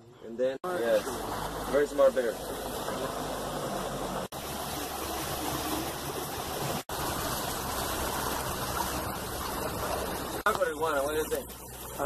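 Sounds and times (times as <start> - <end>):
wind: 0.0 - 12.0
rushing water: 0.6 - 12.0
boat motor humming: 0.7 - 12.0.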